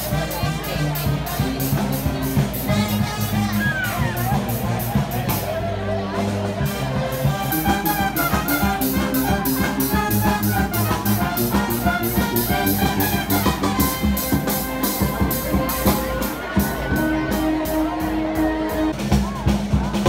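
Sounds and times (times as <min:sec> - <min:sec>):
brass band playing: 0:00.0 - 0:20.0
steady drum beat: 0:00.0 - 0:20.0.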